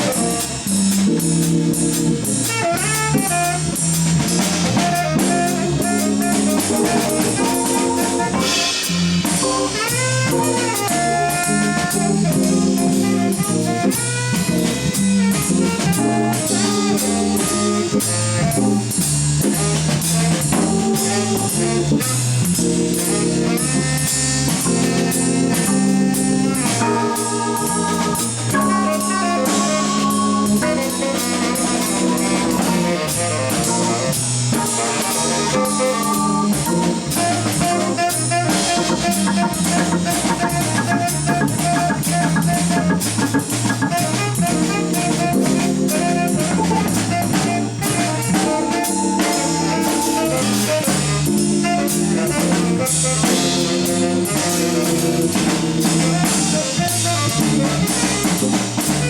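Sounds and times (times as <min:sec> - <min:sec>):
drum kit and cymbals: 0:00.0 - 0:59.0
organ: 0:00.0 - 0:59.0
tenor saxophone: 0:00.0 - 0:59.0.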